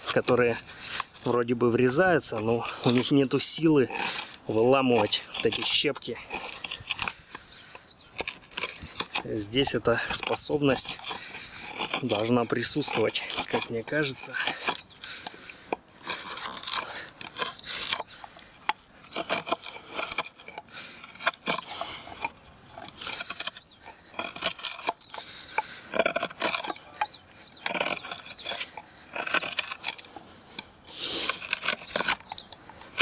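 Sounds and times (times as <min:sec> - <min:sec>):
wood cracking and splitting: 0:00.0 - 0:33.0.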